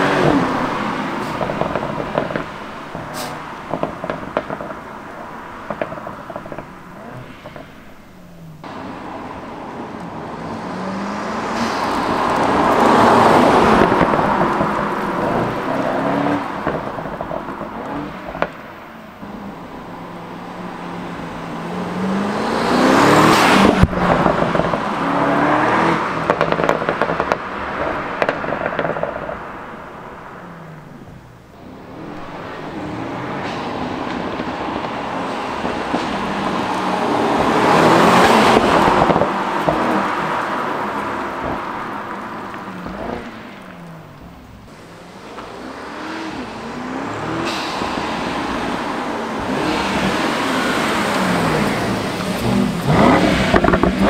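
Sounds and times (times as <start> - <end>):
exhaust pops: 0.0 - 10.5, 11.2 - 54.0
car engine revving: 0.0 - 54.0.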